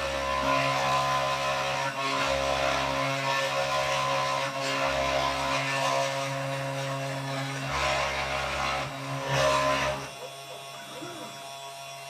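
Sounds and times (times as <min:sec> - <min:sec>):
spindle motor hum and whine: 0:00.0 - 0:12.0
stepper motors buzzing: 0:00.0 - 0:12.0.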